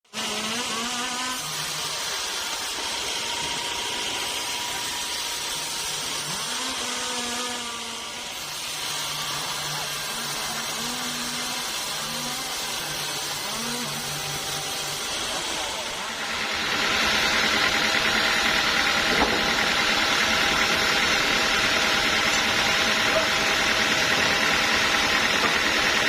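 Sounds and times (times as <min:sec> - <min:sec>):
power saw running: 0:00.1 - 0:26.0.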